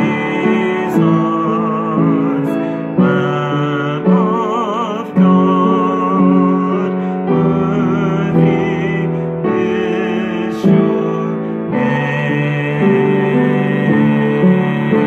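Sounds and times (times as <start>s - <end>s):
man singing with vibrato: 0.0s - 15.0s.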